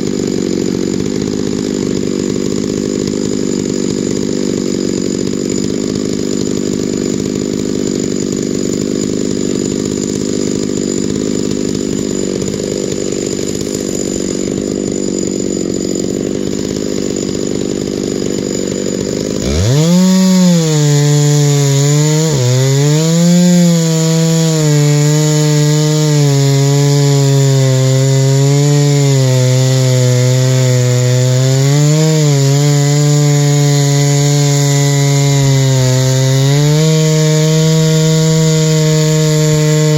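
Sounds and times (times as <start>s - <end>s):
chainsaw mill ripping log: 0.0s - 39.9s.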